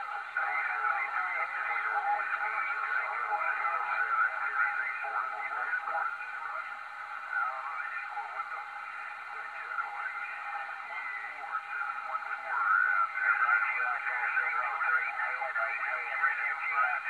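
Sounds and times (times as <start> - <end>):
faint garbled radio voices: 0.0 - 17.0
radio static hiss: 0.0 - 17.0.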